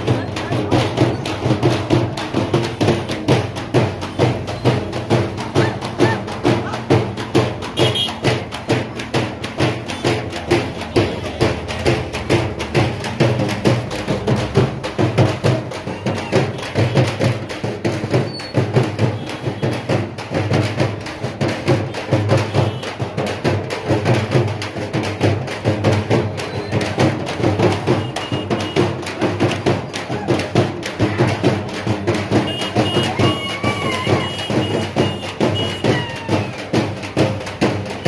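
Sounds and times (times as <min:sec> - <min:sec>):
music with fast dense drumming: 0:00.0 - 0:38.0.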